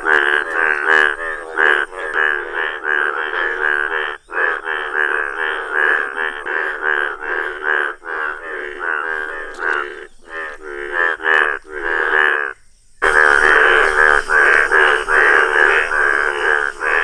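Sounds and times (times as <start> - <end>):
frog chorus croaking: 0.0 - 17.0.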